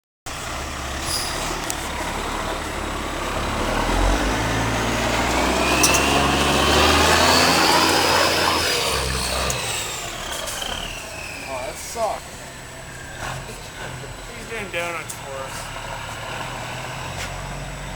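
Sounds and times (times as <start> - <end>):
truck diesel engine revving: 0.3 - 17.9.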